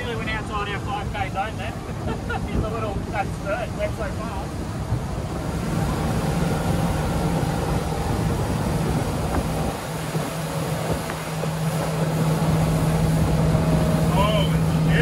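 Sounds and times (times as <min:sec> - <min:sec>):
outboard engine drone: 0:00.0 - 0:15.0
rushing water: 0:00.0 - 0:15.0.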